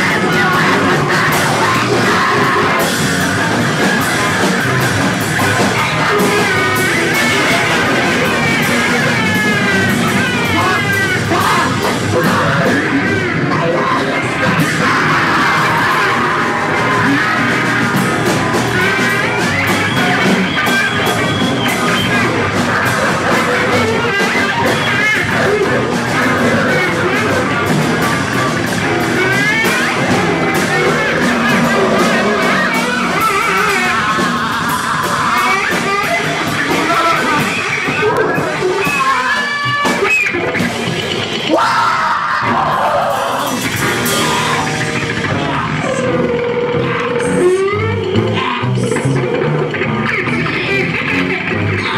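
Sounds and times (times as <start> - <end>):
distorted noise-rock performance: 0.0 - 51.9.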